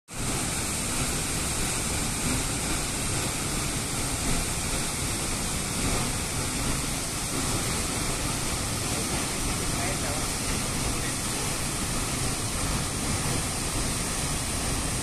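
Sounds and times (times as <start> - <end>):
waterfall rushing: 0.1 - 15.0.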